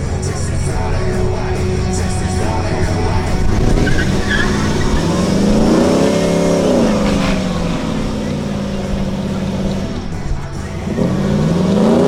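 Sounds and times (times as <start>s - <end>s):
car engine revving: 0.0s - 12.0s
music playing: 0.0s - 12.0s
tyres spinning and skidding: 0.0s - 12.0s.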